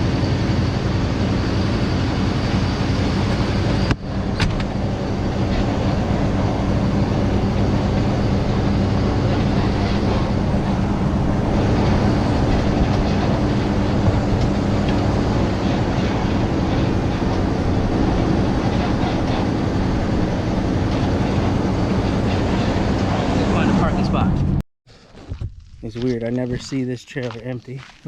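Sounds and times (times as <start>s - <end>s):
pickup truck engine running: 0.0s - 24.6s
trailer rattles: 0.0s - 24.6s
road noise: 0.0s - 28.0s.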